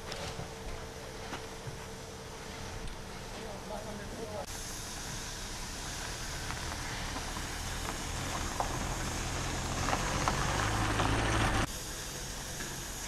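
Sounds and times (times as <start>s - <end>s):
steam locomotive rumble: 0.0s - 13.0s.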